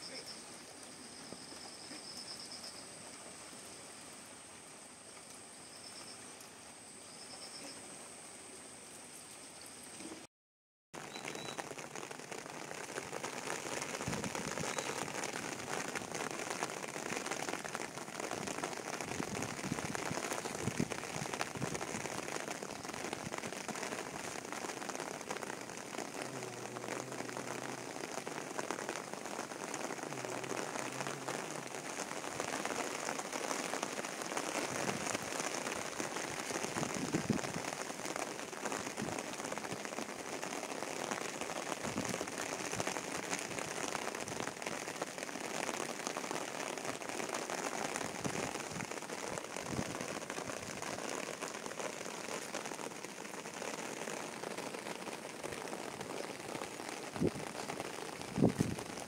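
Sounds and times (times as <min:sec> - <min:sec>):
heavy rain: 0:00.0 - 0:10.3, 0:11.0 - 0:59.0.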